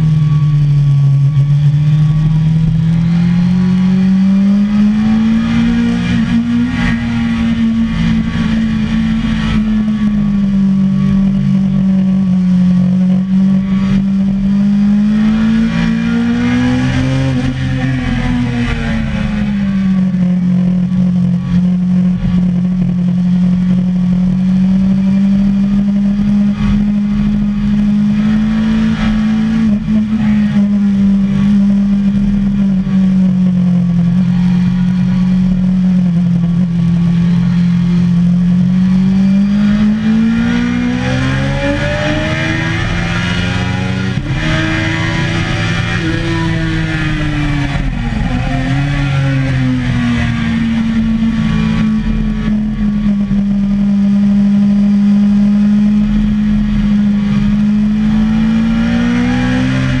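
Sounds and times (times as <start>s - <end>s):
motorcycle engine running hard: 0.0s - 60.0s.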